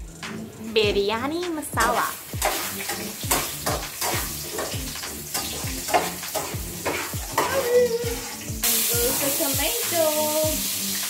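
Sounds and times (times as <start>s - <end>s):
background music with thumping beat: 0.0s - 11.0s
chicken sizzling in a pot: 0.0s - 11.0s.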